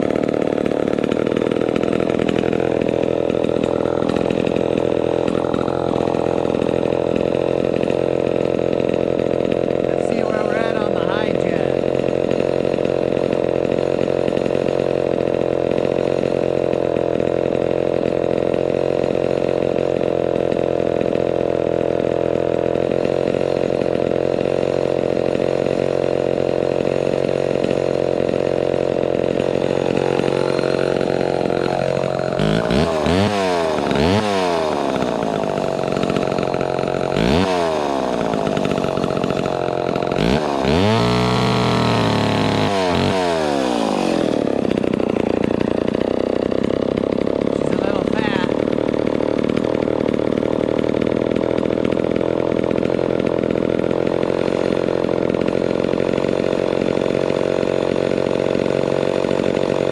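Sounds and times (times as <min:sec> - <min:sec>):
chainsaw running and revving: 0:00.0 - 0:59.9.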